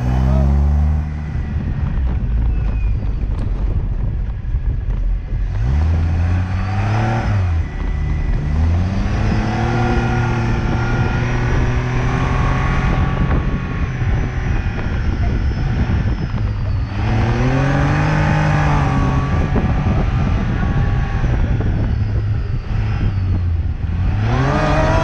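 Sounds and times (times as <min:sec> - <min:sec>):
road and wind noise: 0:00.0 - 0:25.0
sports car engine accelerating: 0:00.0 - 0:25.0.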